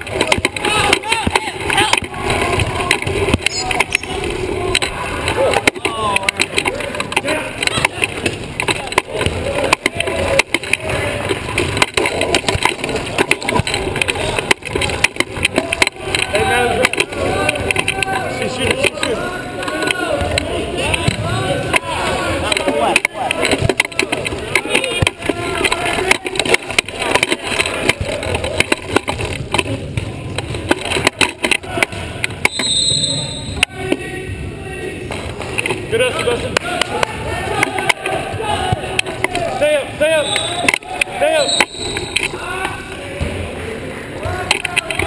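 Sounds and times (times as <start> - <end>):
sharp clacks: 0.0 - 33.7, 40.2 - 42.8.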